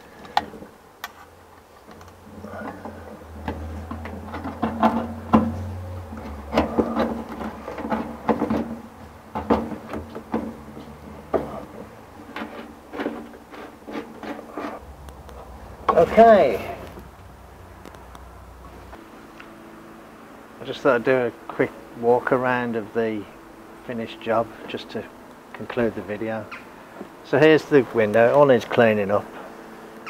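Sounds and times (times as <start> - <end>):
low hum: 1.7 - 27.2.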